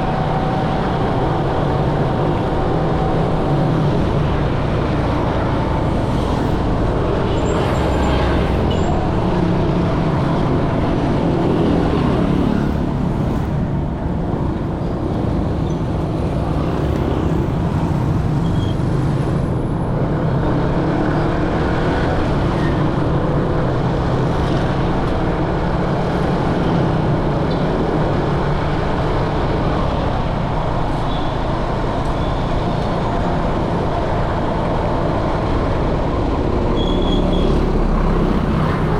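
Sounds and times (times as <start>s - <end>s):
motorcycle and scooter traffic: 0.0s - 38.9s.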